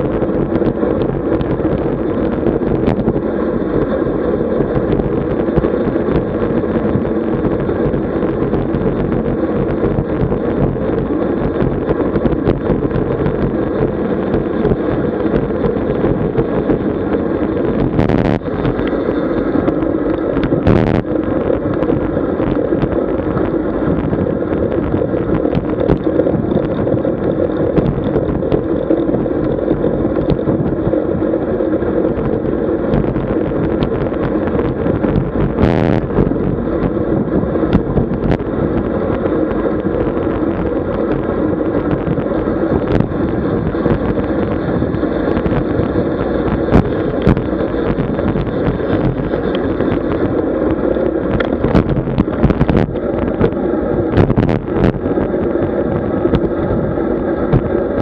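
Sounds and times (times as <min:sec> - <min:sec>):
road noise: 0:00.0 - 0:58.0
wind rush on microphone: 0:00.0 - 0:58.0.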